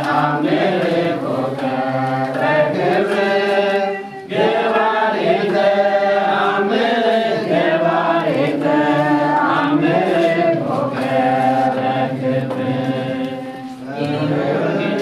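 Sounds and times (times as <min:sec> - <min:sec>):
group of voices chanting a hymn: 0:00.0 - 0:15.0.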